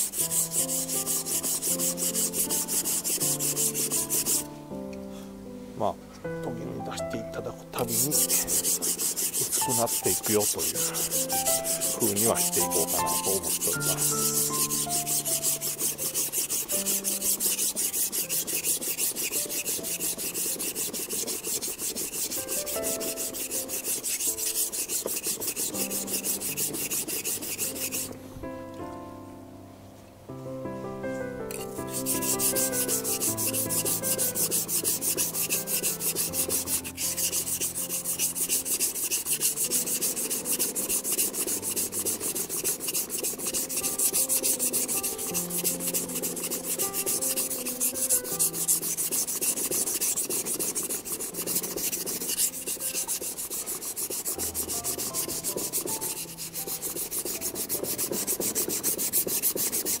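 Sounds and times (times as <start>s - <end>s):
knife blade grinding on whetstone: 0.0s - 4.5s, 7.8s - 28.2s, 31.5s - 60.0s.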